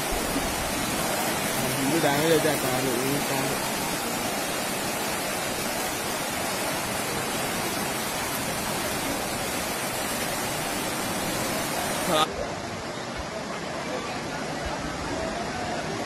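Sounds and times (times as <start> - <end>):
floodwater rushing down a street: 0.0 - 16.0.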